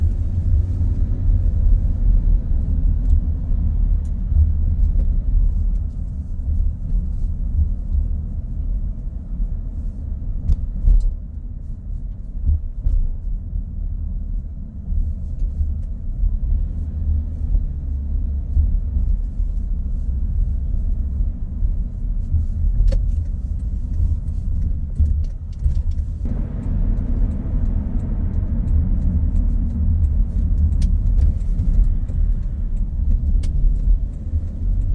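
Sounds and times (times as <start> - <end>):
car engine and tyre rumble: 0.0 - 34.9.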